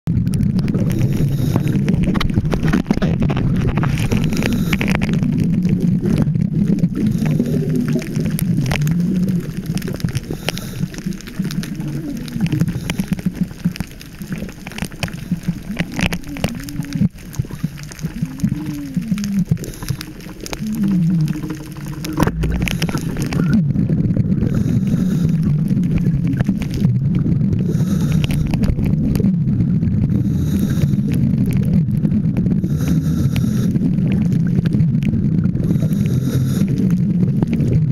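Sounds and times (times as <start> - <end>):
underwater exhaust bubbles: 0.1 - 37.9.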